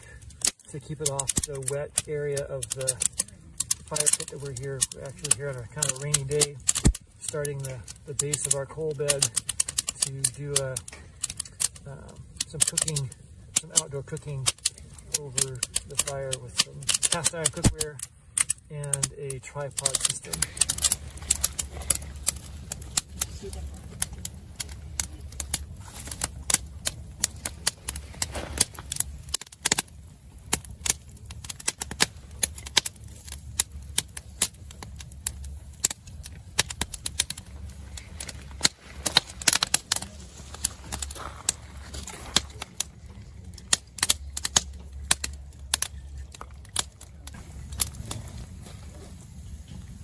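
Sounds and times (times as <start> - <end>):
fire crackling and popping: 0.0 - 50.0
low fire rumble: 0.0 - 50.0.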